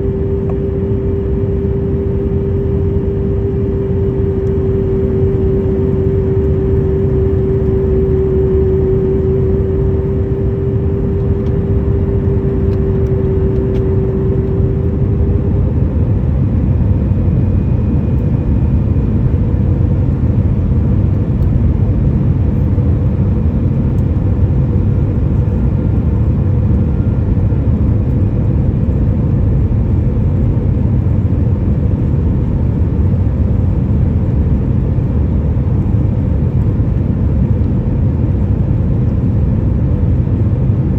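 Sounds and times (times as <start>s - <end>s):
rush of engines and airflow: 0.0s - 40.9s
steady hum: 0.0s - 40.9s.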